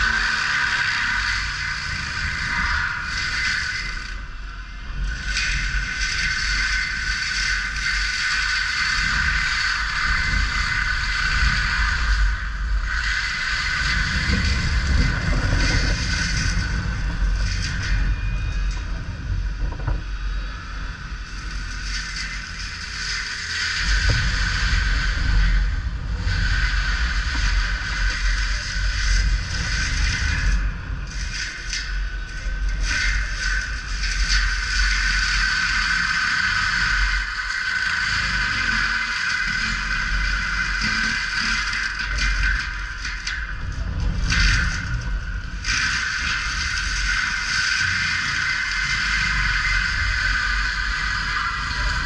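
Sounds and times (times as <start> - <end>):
loader engine and hydraulics whining: 0.0 - 52.0.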